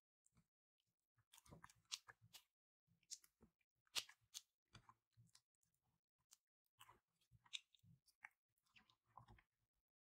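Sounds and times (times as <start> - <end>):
slime squishing: 1.2 - 9.7.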